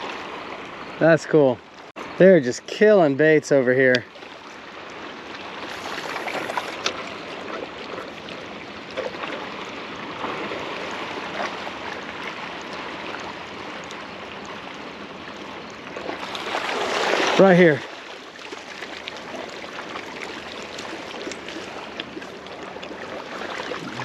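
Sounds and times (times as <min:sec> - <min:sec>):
water splashing and churning: 0:00.0 - 0:24.0.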